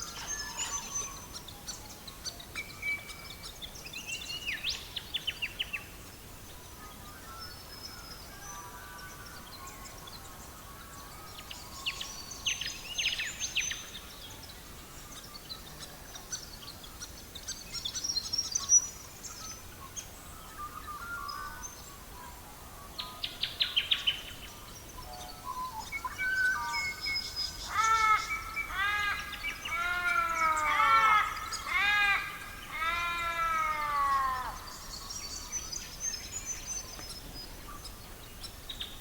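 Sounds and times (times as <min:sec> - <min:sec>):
faint steady hiss: 0:00.0 - 0:39.0
songbirds singing: 0:00.0 - 0:39.0.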